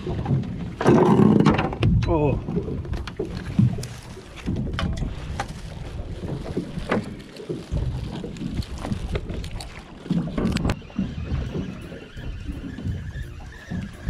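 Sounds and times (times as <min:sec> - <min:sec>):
water slapping boat hull: 0:00.0 - 0:14.0
wind buffeting microphone: 0:00.0 - 0:14.0.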